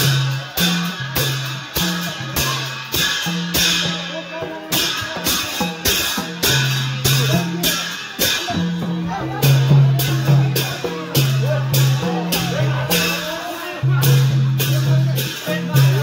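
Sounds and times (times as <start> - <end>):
cymbals clashing: 0.0 - 16.0.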